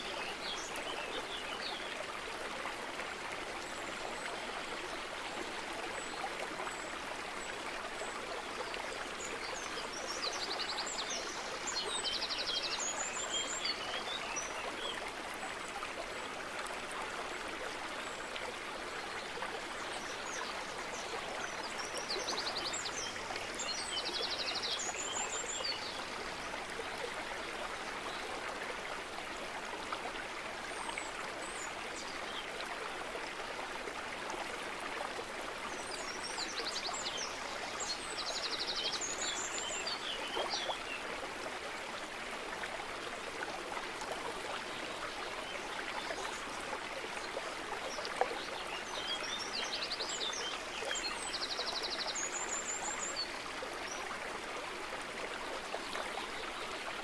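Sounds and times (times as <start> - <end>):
running stream: 0.0 - 57.0.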